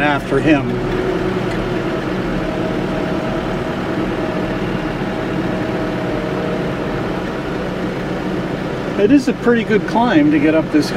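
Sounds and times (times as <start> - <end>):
steady whine: 0.0 - 10.9
tractor diesel engine running: 0.0 - 10.9.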